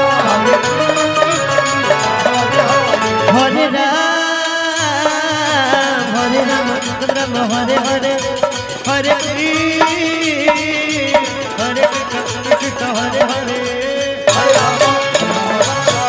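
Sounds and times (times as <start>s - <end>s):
clicking hand percussion: 0.0s - 3.8s, 4.4s - 16.0s
electronic keyboard melody: 0.0s - 16.0s
percussion beat: 0.0s - 16.0s.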